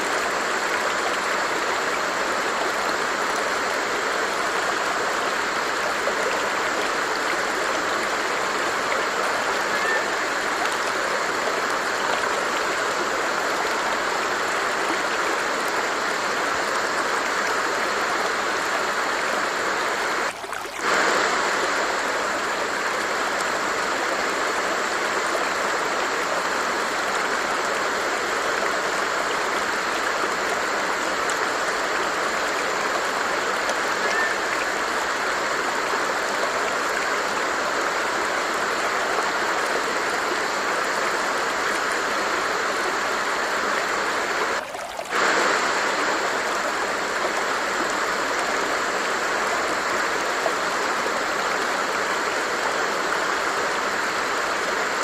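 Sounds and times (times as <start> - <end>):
stream of water flowing: 0.0 - 55.0.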